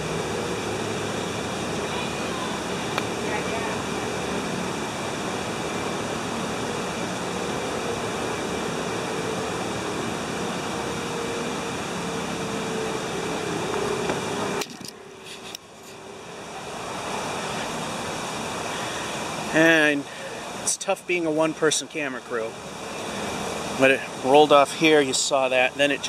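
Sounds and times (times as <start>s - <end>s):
water rushing from waterfall: 0.0s - 26.0s.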